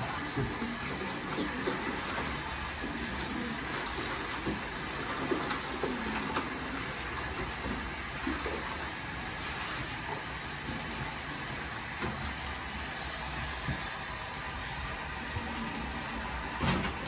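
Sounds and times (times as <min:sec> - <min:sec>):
hose water splashing into tray: 0:00.0 - 0:17.0.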